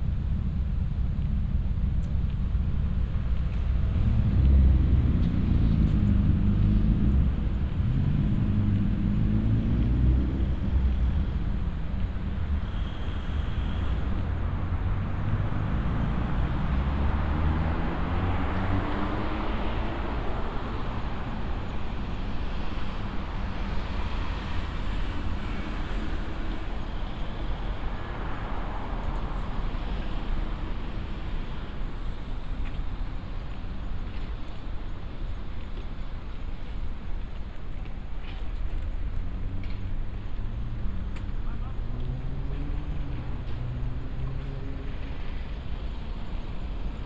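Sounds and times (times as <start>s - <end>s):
cars passing with tyre noise: 0.0s - 47.0s
steady traffic rumble: 0.0s - 47.0s.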